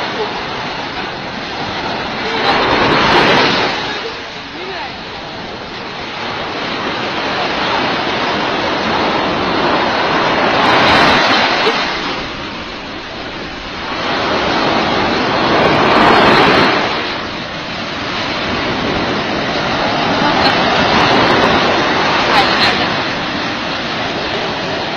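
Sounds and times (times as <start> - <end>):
waves breaking on beach: 0.0 - 24.9.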